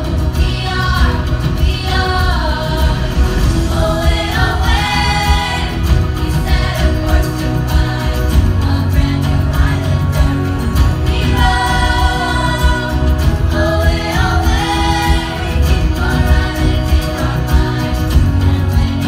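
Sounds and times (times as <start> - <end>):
backing music with bass line: 0.0 - 19.0
children's choir singing: 0.0 - 19.0.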